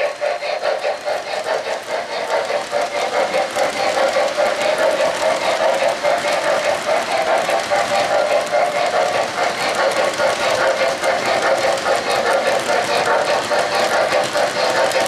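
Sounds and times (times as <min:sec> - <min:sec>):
toy train cars rolling on track: 0:00.0 - 0:15.0.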